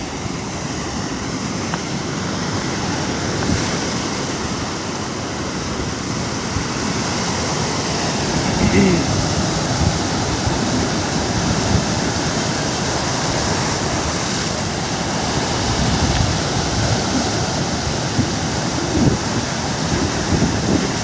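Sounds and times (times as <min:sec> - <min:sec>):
waves breaking: 0:00.0 - 0:21.0
wind rumble on microphone: 0:00.0 - 0:21.0.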